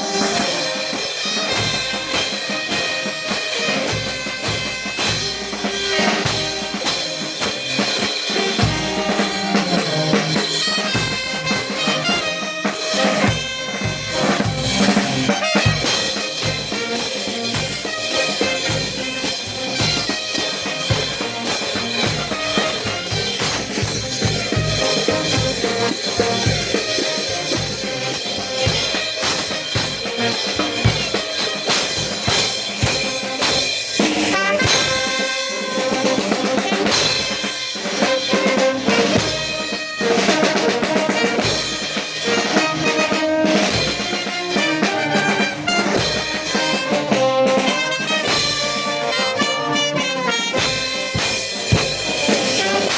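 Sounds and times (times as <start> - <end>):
brass band playing: 0.0 - 52.9
steady drumbeat: 0.0 - 52.9.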